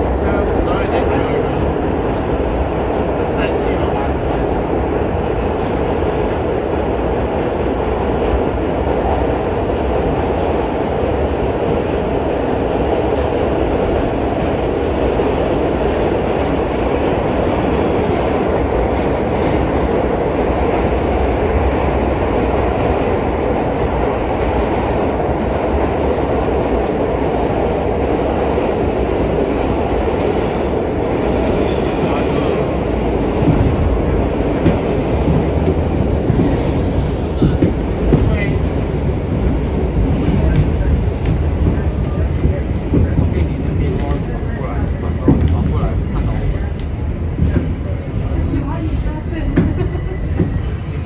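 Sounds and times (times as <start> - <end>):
subway wheels on rails: 0.0 - 51.0.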